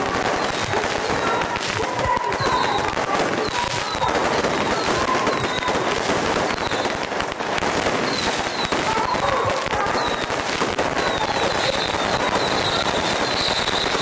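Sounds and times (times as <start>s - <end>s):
firecrackers crackling: 0.0s - 14.0s.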